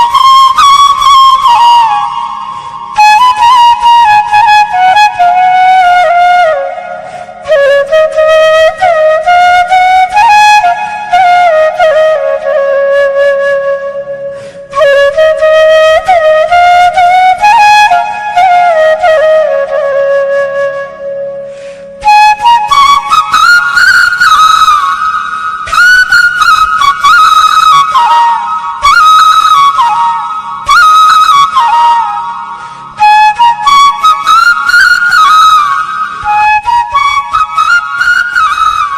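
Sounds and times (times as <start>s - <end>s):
solo flute melody: 0.0s - 38.9s.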